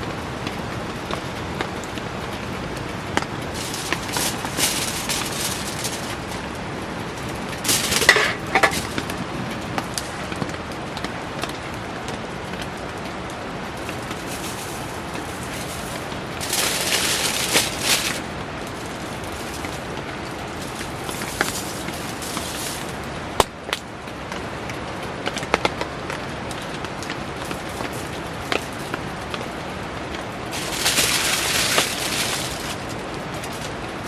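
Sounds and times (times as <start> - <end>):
campfire crackling: 0.0 - 34.0
heavy rain: 0.0 - 34.0.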